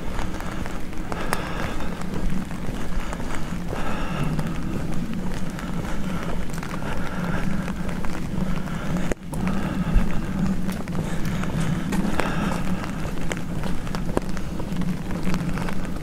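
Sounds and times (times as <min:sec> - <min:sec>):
footsteps on pavement: 0:00.0 - 0:16.0
street traffic hum: 0:00.0 - 0:16.0.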